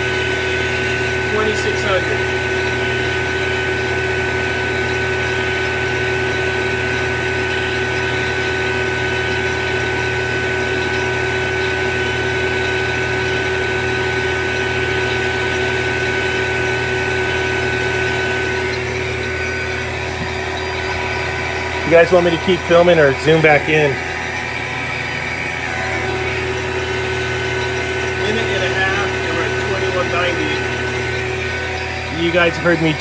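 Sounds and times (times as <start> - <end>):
vacuum pump humming and whining: 0.0 - 33.0.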